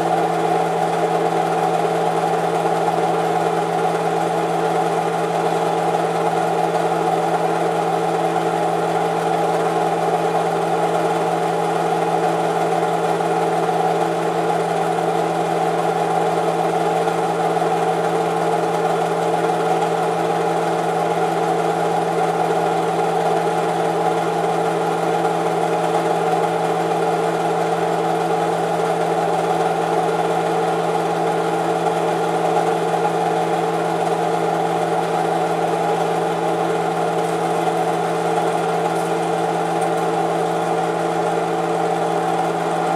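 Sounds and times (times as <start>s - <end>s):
film projector whirring: 0.0s - 42.9s.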